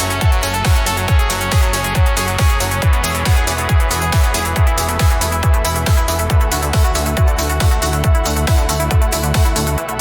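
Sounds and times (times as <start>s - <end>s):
electronic trance music: 0.0s - 10.0s.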